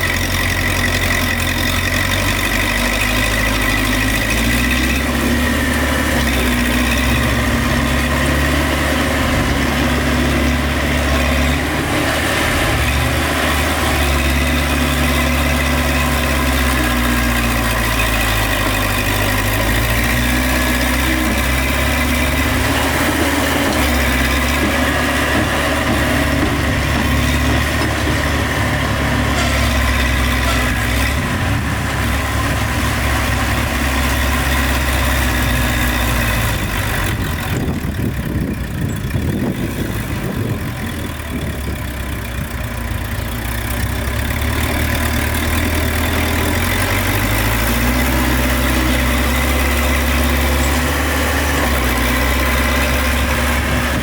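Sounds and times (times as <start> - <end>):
heavy machinery engine rumbling: 0.0 - 54.0.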